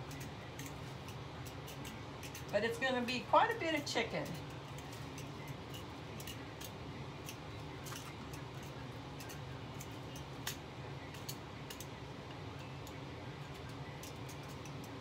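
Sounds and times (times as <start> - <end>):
metal tongs clicking against pot: 0.0 - 11.9, 12.6 - 15.0
low steady hum: 0.0 - 15.0.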